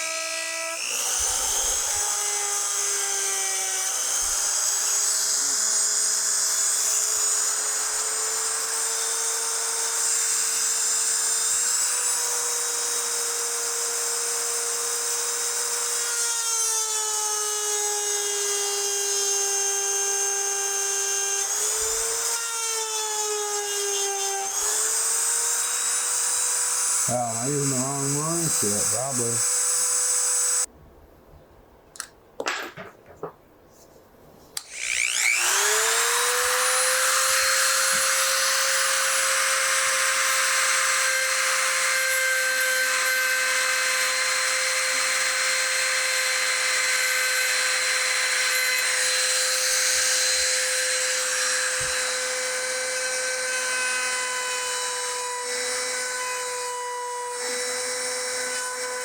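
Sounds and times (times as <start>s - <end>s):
electric grinder whining: 0.0s - 30.7s, 34.6s - 59.0s.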